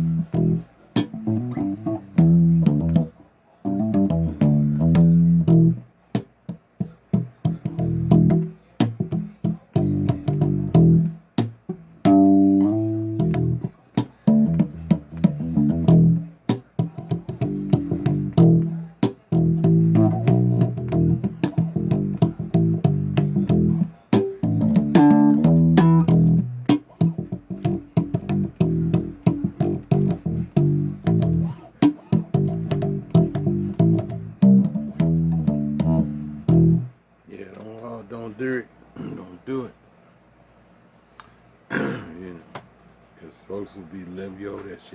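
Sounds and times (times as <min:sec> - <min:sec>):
electric bass guitar riffs: 0:00.0 - 0:37.0.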